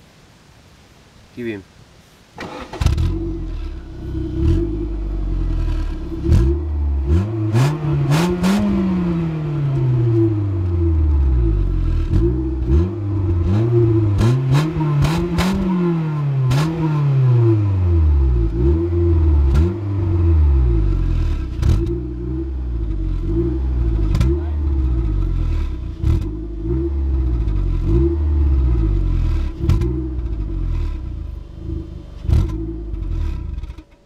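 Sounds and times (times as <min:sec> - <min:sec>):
car engine revving: 0:02.4 - 0:34.0.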